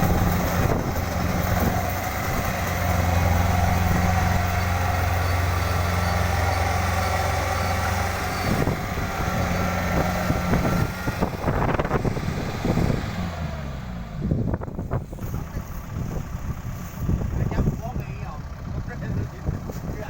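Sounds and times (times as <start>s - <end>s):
diesel engine humming and knocking: 0.0s - 20.0s.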